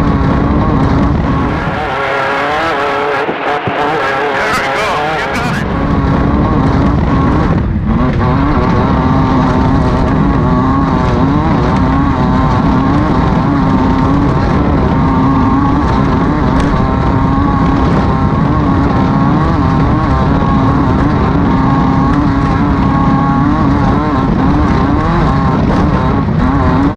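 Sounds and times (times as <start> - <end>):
off-road race car engine running hard: 0.0 - 26.9.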